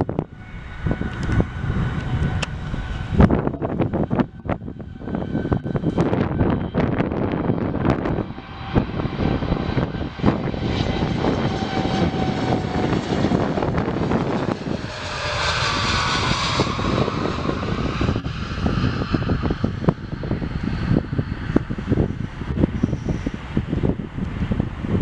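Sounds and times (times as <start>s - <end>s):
jet engines roaring with whine: 0.0s - 25.0s.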